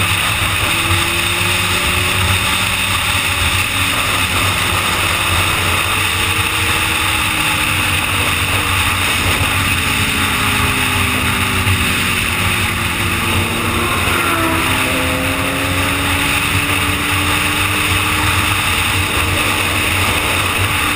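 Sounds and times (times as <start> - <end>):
motorcycle engine running: 0.0 - 20.9
wind and road rush: 0.0 - 20.9.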